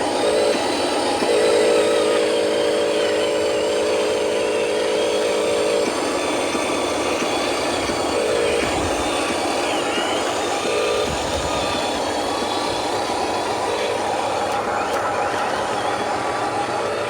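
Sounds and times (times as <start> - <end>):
mechanical running noise: 0.0 - 17.0
radio-controlled truck buzzing: 0.0 - 17.0.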